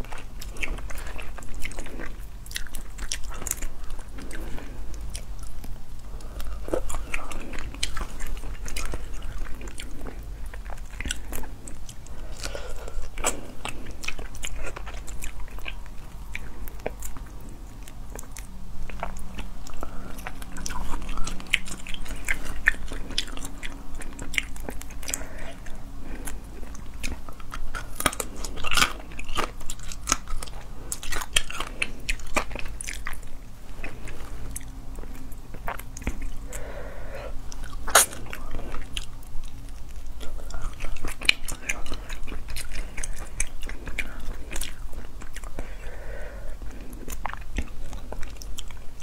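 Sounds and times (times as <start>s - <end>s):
chewing crunchy shrimp shells: 0.0s - 49.0s.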